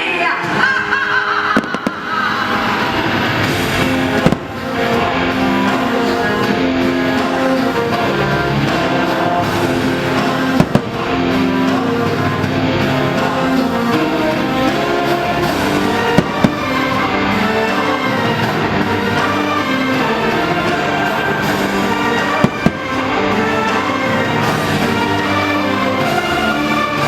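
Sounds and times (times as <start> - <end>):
firework bangs: 1.5 - 8.0, 9.0 - 13.0, 14.2 - 25.8
loud soundtrack music: 1.6 - 27.0.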